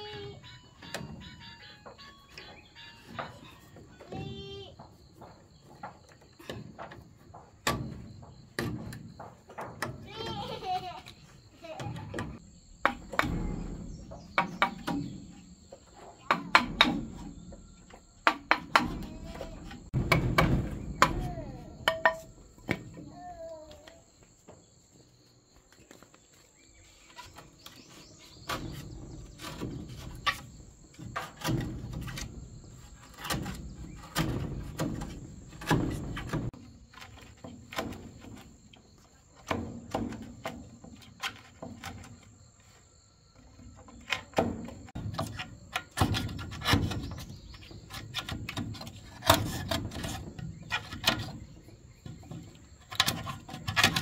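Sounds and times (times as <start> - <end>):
crickets chirring: 0.0 - 54.0
knocks and thuds of manual work: 0.0 - 54.0.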